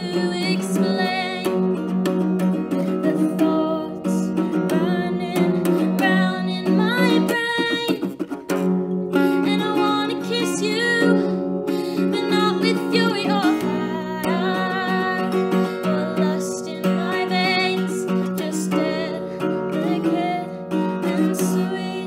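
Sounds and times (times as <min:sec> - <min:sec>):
acoustic guitar strumming: 0:00.0 - 0:22.0
woman singing: 0:00.0 - 0:22.0.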